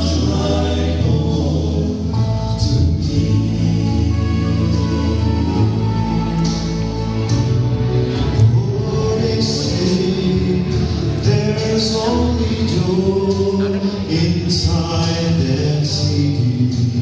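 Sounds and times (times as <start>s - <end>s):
vocal quartet singing gospel: 0.0s - 17.0s.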